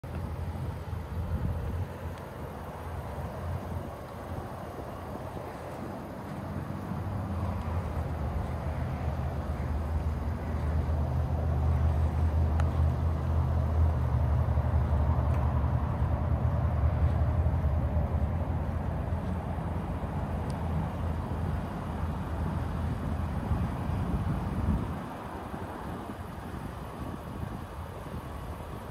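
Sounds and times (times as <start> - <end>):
truck engine idling: 0.0 - 28.9.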